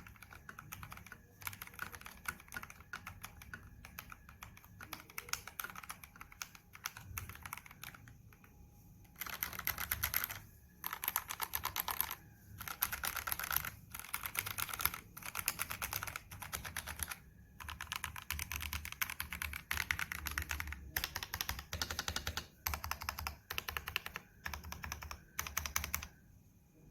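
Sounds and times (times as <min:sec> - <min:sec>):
mechanical keyboard typing: 0:00.0 - 0:26.2.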